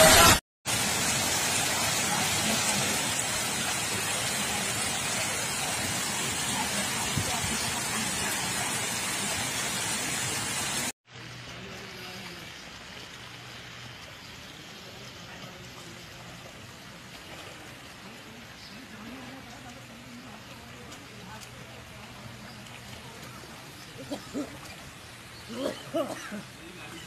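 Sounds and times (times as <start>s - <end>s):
heavy rain: 0.0s - 27.0s
rushing floodwater: 0.0s - 27.0s
wash of water: 0.0s - 27.0s.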